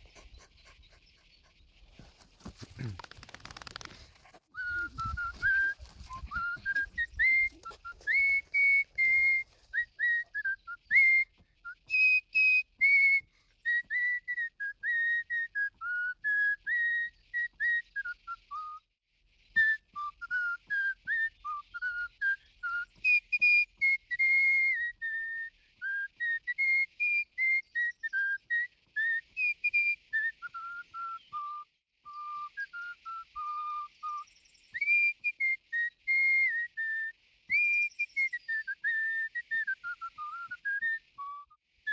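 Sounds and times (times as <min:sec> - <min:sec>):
whistled melody: 0:04.6 - 0:41.9.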